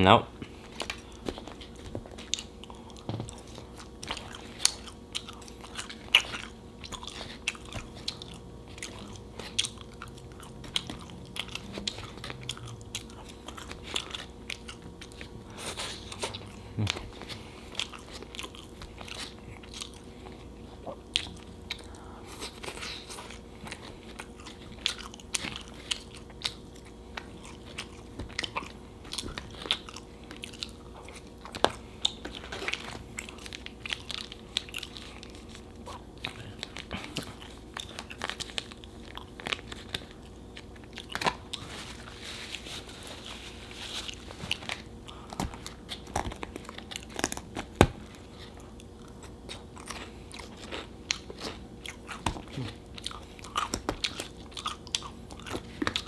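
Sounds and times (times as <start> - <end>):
faint steady hum: 0.0 - 56.0
person chewing and biting: 0.4 - 56.0.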